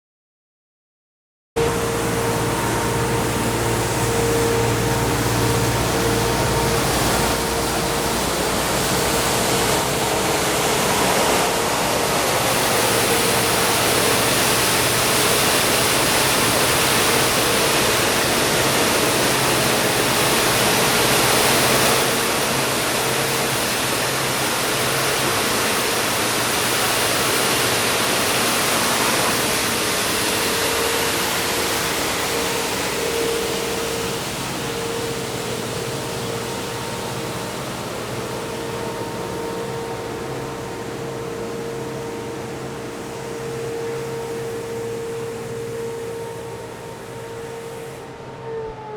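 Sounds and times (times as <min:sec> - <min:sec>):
constant high whine: 0:01.6 - 0:48.9
diesel engine: 0:01.6 - 0:48.9
road sweeper rushing hiss: 0:01.6 - 0:48.9.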